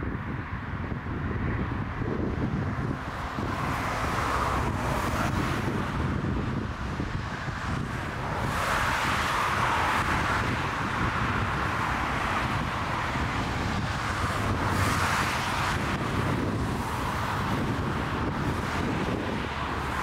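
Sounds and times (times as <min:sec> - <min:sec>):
wind buffeting microphone: 0:00.0 - 0:20.0
jet engines at high thrust: 0:01.0 - 0:20.0.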